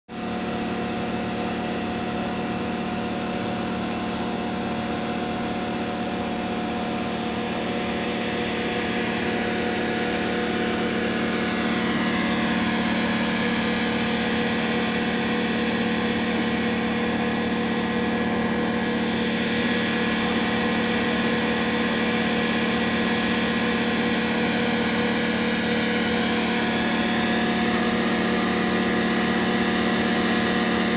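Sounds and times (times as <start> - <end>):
steady mechanical hum: 0.1 - 30.9.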